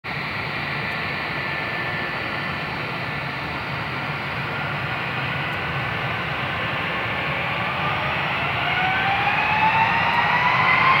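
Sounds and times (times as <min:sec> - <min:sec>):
jet engines whining: 0:00.1 - 0:11.0.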